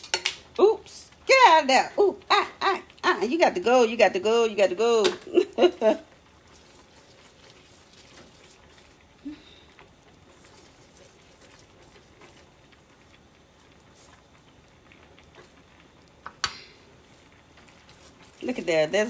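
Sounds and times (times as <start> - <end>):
sauce simmering in a pan: 0.0 - 19.0.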